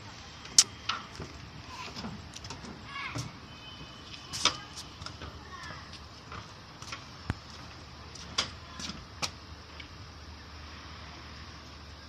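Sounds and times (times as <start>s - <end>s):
low outdoor hum: 0.0s - 12.0s.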